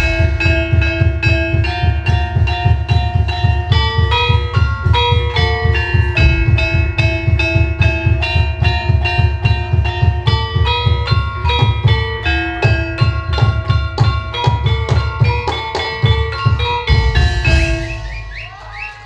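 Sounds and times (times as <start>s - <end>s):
metallophones ringing: 0.0s - 19.0s
steady drum beat: 0.0s - 19.0s.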